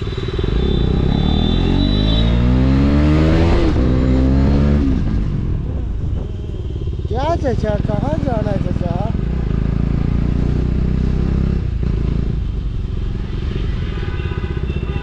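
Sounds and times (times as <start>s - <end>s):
motorcycle engine accelerating: 0.0s - 12.6s.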